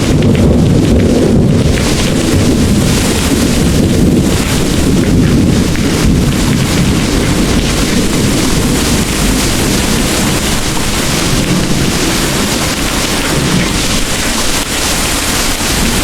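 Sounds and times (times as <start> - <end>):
distant rolling thunder: 0.0 - 16.0
heavy rain pouring: 0.0 - 16.0.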